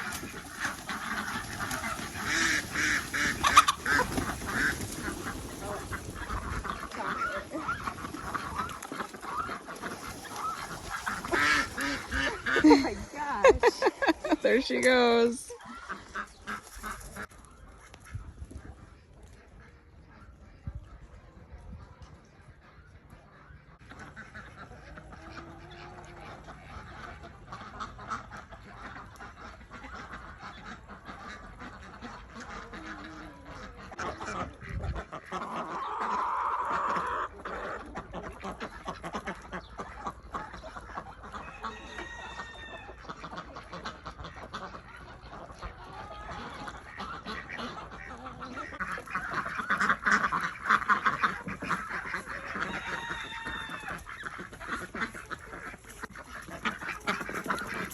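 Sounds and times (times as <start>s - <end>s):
poultry calling: 0.0s - 21.0s, 22.3s - 57.9s.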